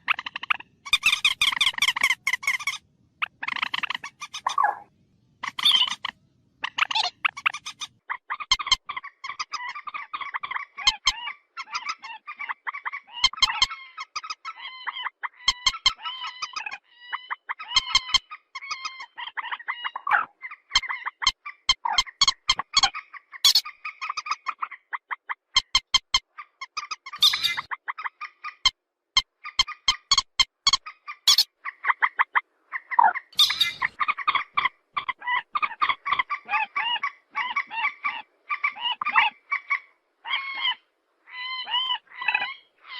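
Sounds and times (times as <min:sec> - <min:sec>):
bird squawking: 0:00.0 - 0:42.9.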